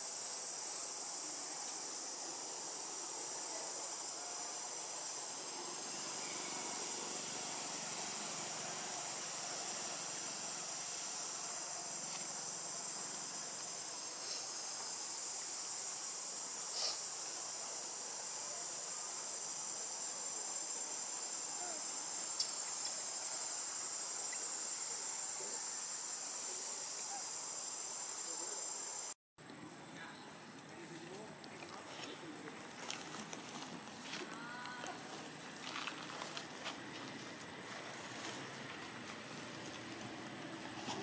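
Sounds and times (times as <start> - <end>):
insect chorus drone: 0.0 - 41.0.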